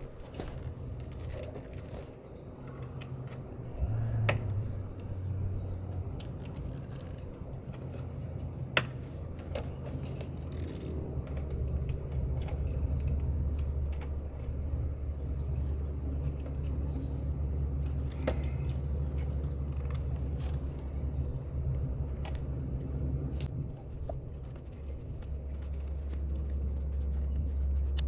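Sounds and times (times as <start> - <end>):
steady low rumble: 2.4 - 28.0.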